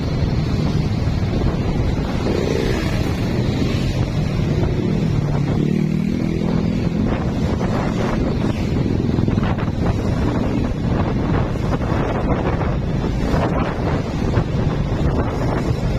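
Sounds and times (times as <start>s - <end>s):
motorcycle engine: 0.0s - 15.9s
wind buffeting microphone: 0.0s - 15.9s.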